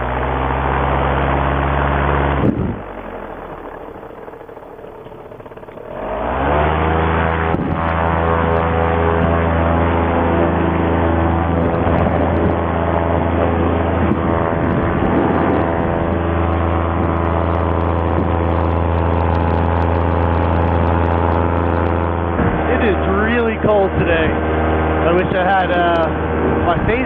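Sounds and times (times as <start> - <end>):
paramotor engine and propeller drone: 0.0 - 27.0.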